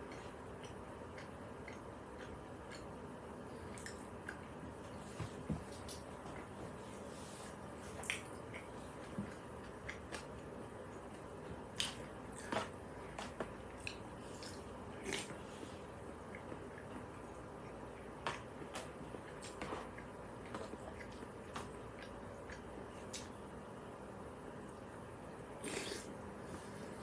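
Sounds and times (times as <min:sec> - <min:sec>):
faint chewing: 0:00.0 - 0:23.4, 0:25.5 - 0:26.8.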